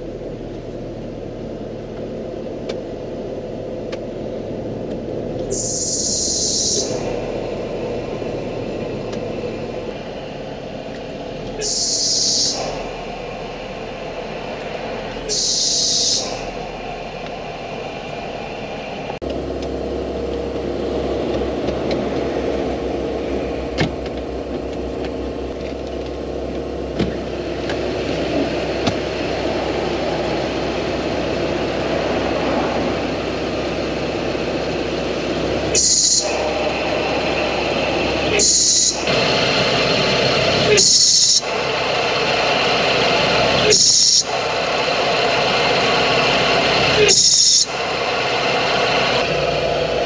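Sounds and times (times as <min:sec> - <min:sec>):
van engine idling: 0:00.0 - 0:50.0.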